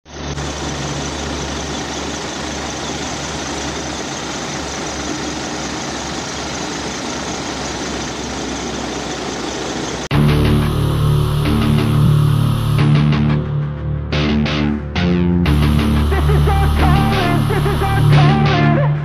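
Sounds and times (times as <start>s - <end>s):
diesel engine idling: 0.1s - 13.7s, 15.4s - 18.7s.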